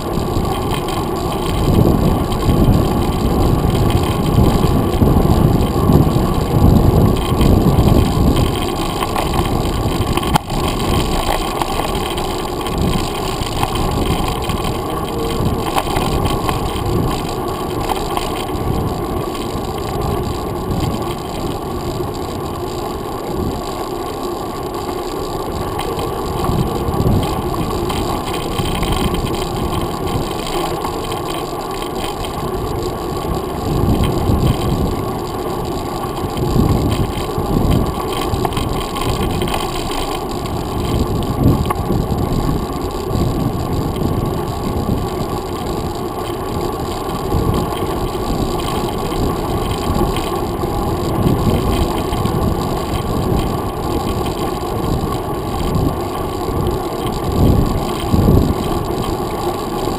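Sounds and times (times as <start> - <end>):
bicycle tyre road noise: 0.0 - 59.9
wind buffeting microphone: 0.0 - 59.9.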